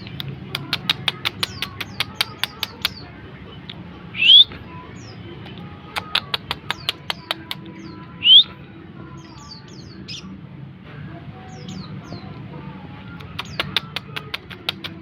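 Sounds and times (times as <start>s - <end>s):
bird singing: 0.0s - 10.4s, 11.3s - 15.0s.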